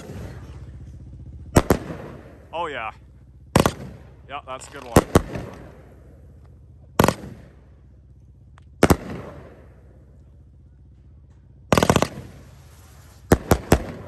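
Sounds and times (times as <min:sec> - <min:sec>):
firework bangs: 0:00.0 - 0:07.8, 0:08.7 - 0:09.9, 0:11.7 - 0:14.0.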